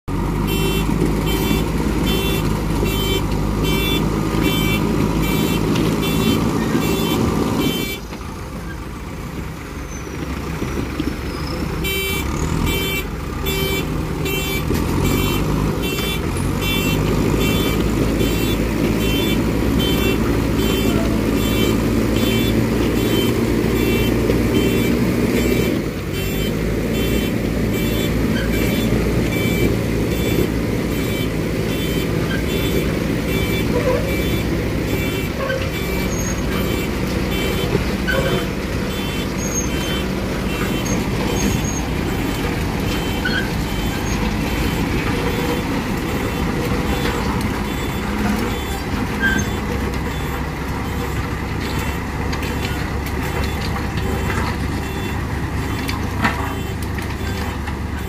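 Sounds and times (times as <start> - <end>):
diesel engine under load: 0.0 - 58.0
reversing alarm beeps: 0.5 - 8.0, 11.8 - 58.0.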